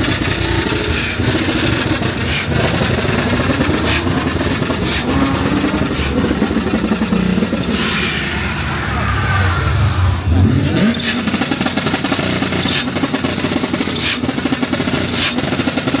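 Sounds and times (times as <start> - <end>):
car engine revving: 0.0 - 16.0
car engines running: 0.0 - 16.0.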